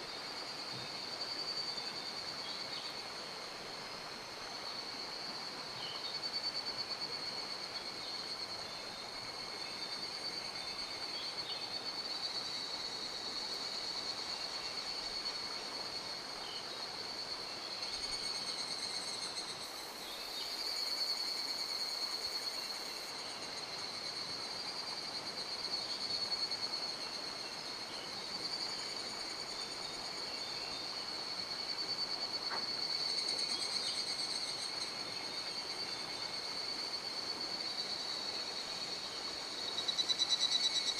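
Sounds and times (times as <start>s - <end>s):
high-pitched insect chirr: 4.6s - 40.9s.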